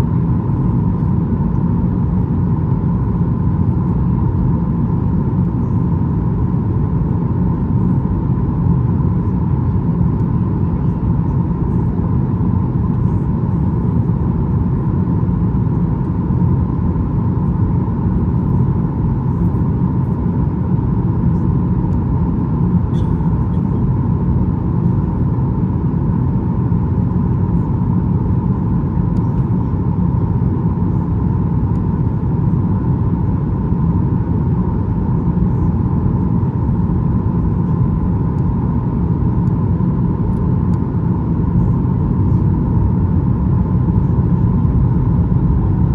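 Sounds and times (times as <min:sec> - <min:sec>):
airplane cabin engine rumble: 0:00.0 - 0:45.9
steady hum: 0:00.0 - 0:45.9.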